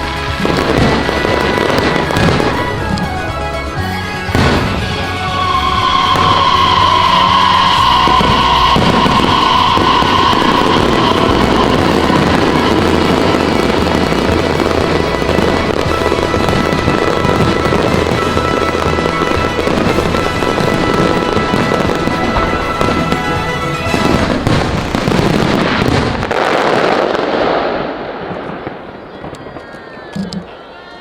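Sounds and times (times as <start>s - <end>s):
music playing: 0.0s - 27.3s
fireworks crackling and popping: 0.0s - 31.0s.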